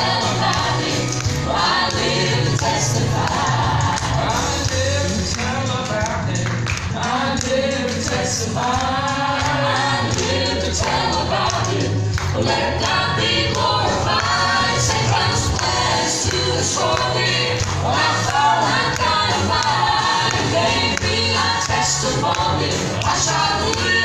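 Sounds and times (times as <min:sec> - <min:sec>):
gospel group singing in harmony: 0:00.0 - 0:24.0.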